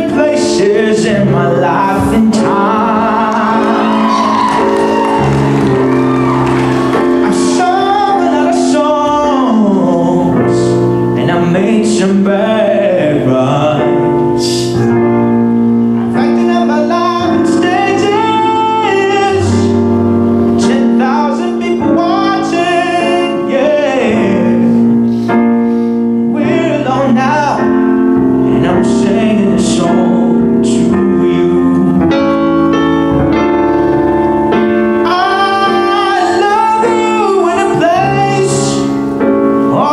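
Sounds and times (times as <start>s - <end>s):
man singing: 0.0s - 4.7s, 7.0s - 24.9s, 26.2s - 32.8s, 34.6s - 39.9s
piano chords: 0.0s - 39.9s.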